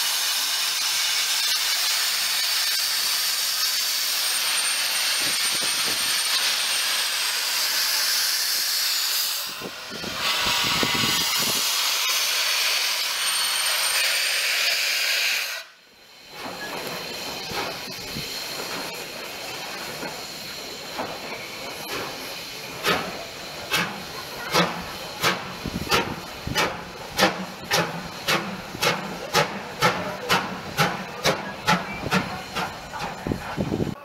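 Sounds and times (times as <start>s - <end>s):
steam hiss: 0.0s - 34.0s
steam locomotive exhaust chuffs: 0.0s - 34.0s.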